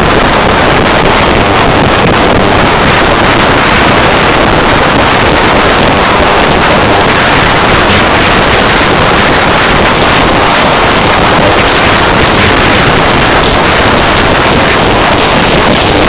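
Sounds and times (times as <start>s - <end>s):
harsh noise music: 0.0s - 16.0s.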